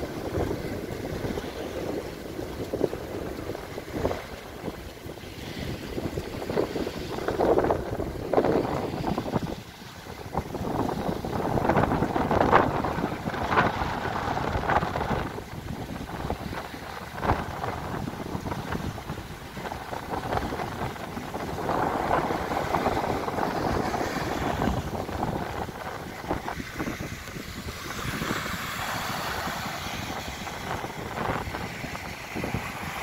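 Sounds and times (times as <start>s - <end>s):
small waves breaking on beach: 0.0s - 33.0s
wind gusting against microphone: 0.0s - 33.0s.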